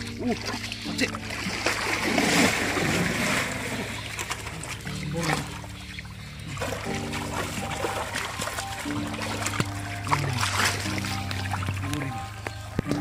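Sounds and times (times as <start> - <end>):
background music: 0.0 - 13.0
fish thrashing in water: 0.0 - 13.0
water splashing: 0.0 - 13.0.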